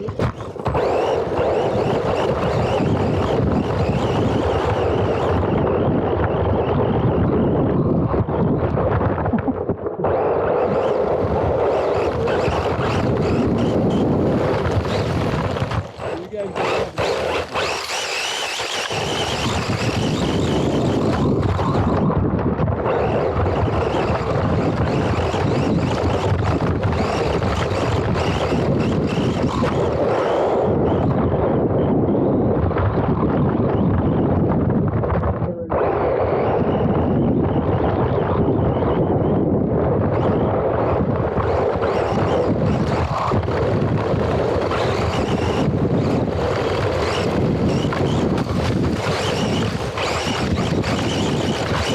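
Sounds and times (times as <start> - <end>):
rc car driving over dirt: 0.0 - 51.9
wind buffeting microphone: 0.0 - 51.9.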